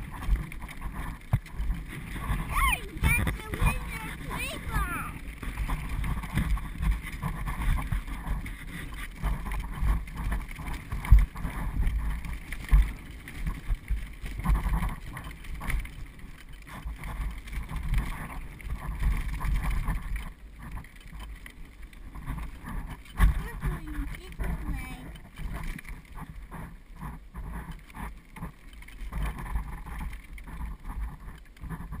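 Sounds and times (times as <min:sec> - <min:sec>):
trailer wheels rumbling on pavement: 0:00.0 - 0:32.0
wind buffeting microphone: 0:00.0 - 0:32.0.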